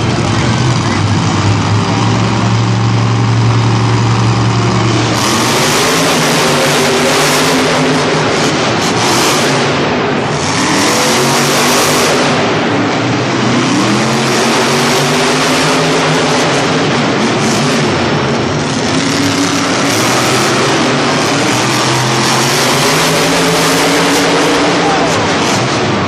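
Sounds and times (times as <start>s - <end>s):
monster truck engine revving: 0.0s - 26.0s.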